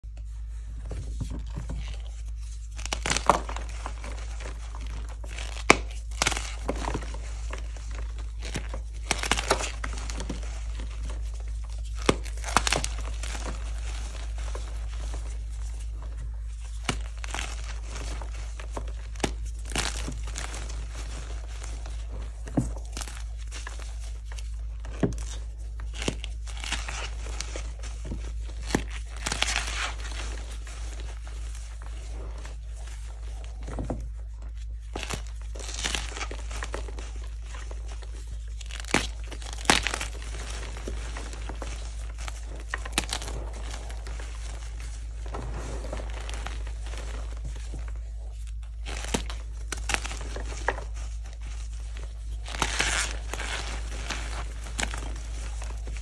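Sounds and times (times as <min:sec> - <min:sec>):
hands crumbling chalk: 0:00.1 - 0:56.0.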